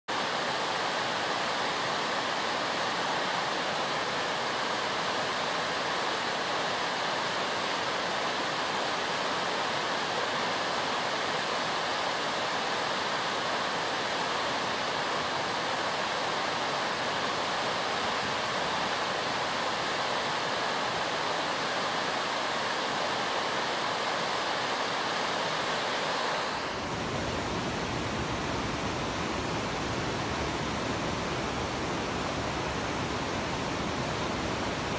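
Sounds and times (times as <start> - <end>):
river rapids rushing: 0.1 - 34.9.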